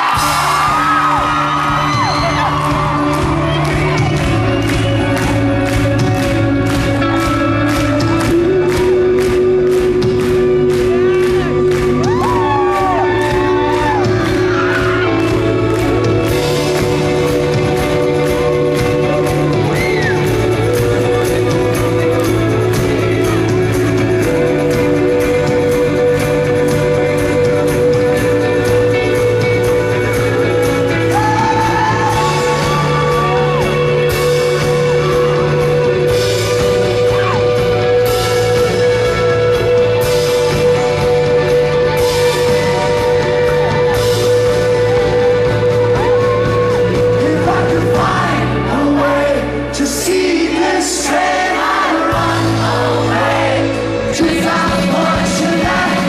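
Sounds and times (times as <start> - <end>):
lead singer singing: 0.0 - 56.0
rock band playing live: 0.0 - 56.0.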